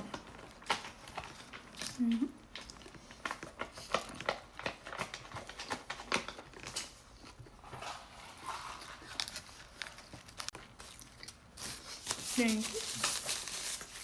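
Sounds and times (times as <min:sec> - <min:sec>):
close-miked chewing: 0:00.0 - 0:07.7, 0:08.4 - 0:13.0
paper wrapper crinkling: 0:00.0 - 0:14.0.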